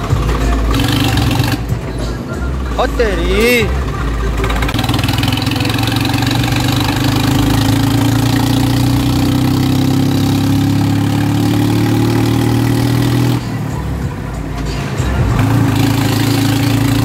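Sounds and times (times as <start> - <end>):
tractor diesel engine pulling: 0.0 - 17.0.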